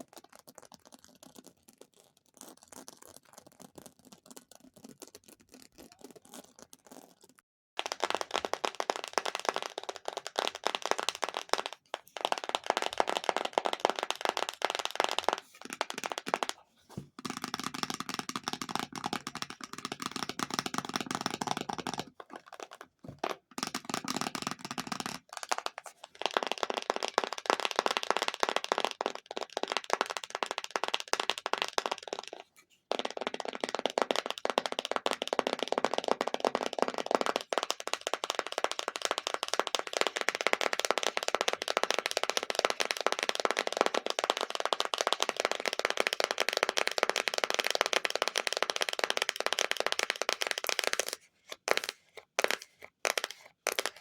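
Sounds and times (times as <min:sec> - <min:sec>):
fast tapping on an object: 0:07.8 - 0:54.0.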